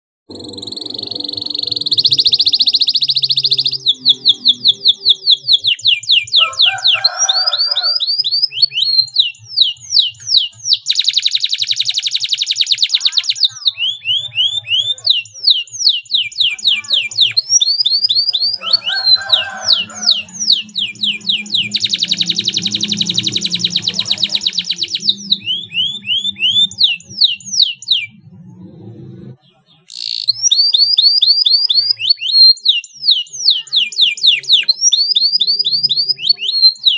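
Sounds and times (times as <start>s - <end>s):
canary singing: 0.3s - 36.9s.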